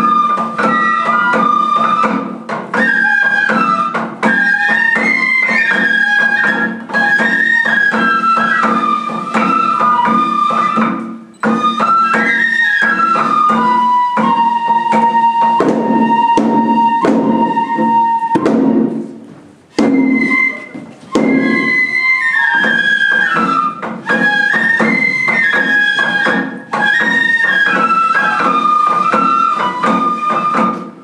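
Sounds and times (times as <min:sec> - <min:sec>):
drum beats: 0:00.0 - 0:31.0
transverse flute melody: 0:00.0 - 0:31.0.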